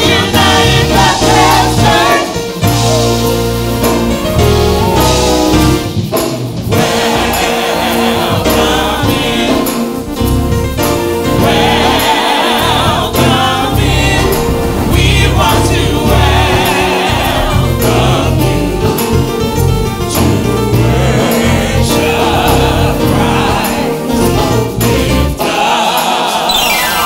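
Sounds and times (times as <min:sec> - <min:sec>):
group singing in harmony: 0:00.0 - 0:05.9, 0:06.6 - 0:27.0
band accompaniment: 0:00.0 - 0:27.0.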